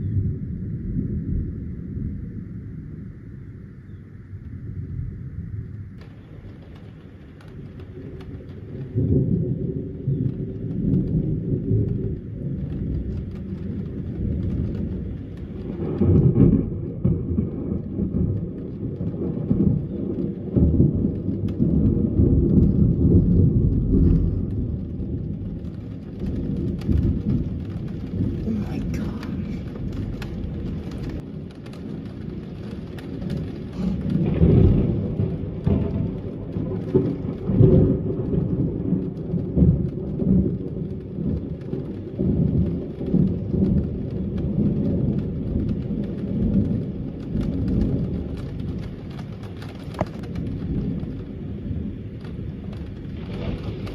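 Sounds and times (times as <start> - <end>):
rain falling: 0.0 - 53.9
thunder rumbling: 0.0 - 53.9.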